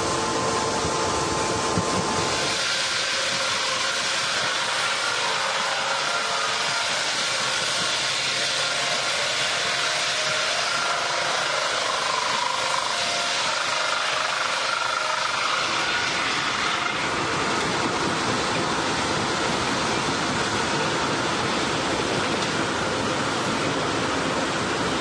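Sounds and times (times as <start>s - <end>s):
sawmill machinery hiss: 0.0s - 25.0s.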